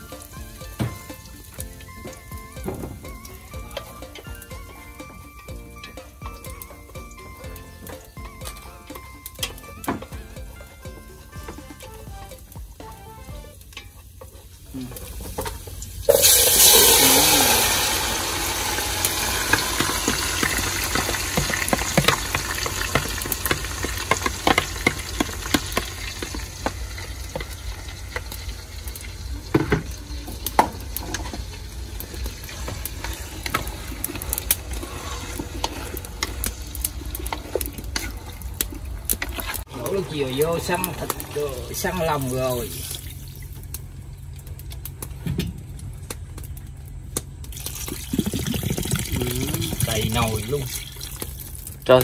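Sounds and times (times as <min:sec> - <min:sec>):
offal sizzling in a pot: 0:00.0 - 0:52.0.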